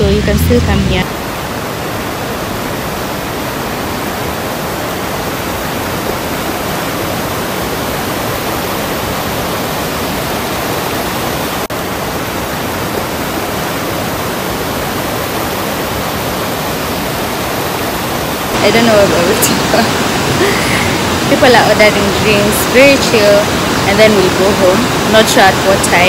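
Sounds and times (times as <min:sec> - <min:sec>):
river rapids rushing over rocks: 0:00.0 - 0:26.0.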